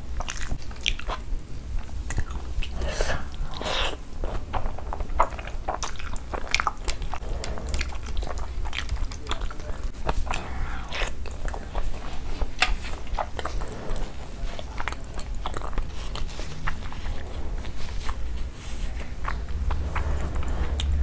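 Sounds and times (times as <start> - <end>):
steady low hum: 0.0 - 21.0
chewing with mouth closed: 0.1 - 21.0.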